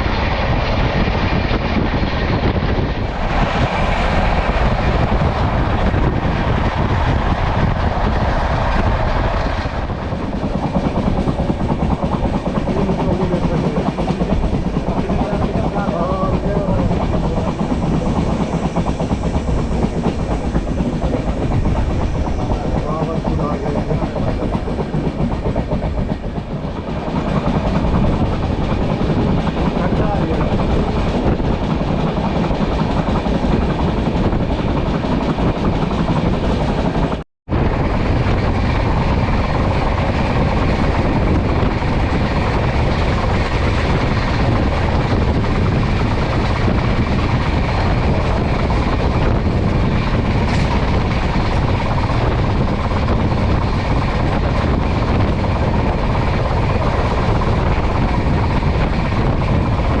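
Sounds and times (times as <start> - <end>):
train rumble and rail noise: 0.0 - 60.0.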